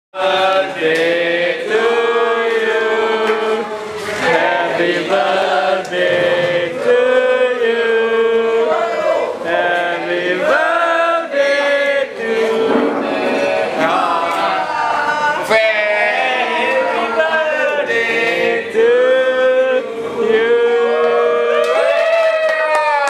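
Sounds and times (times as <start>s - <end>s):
voices chanting long notes: 0.2s - 22.0s.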